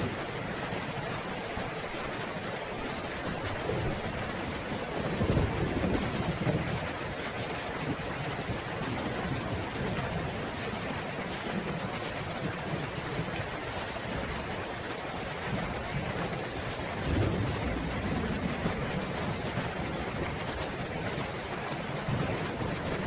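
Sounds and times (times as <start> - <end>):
steady rain falling: 0.0 - 23.0
low rumble of thunder: 3.4 - 14.4, 15.5 - 23.0.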